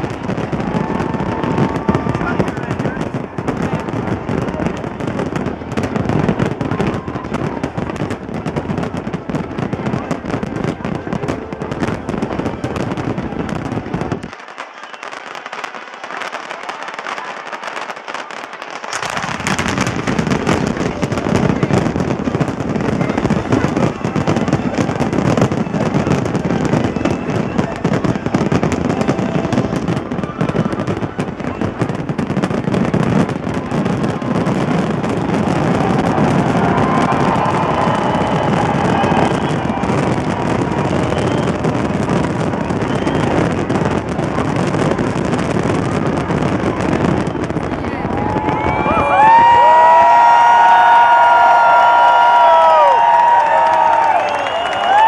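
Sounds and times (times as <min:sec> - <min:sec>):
deep firework booms: 0:00.0 - 0:14.3, 0:18.9 - 0:53.3
fireworks crackling: 0:00.0 - 0:55.0.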